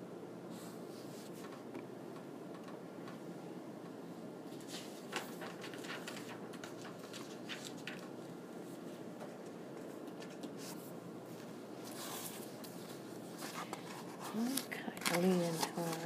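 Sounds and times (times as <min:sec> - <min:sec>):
steady low hum: 0:00.0 - 0:16.0
soft handling clicks and rustles: 0:01.0 - 0:16.0.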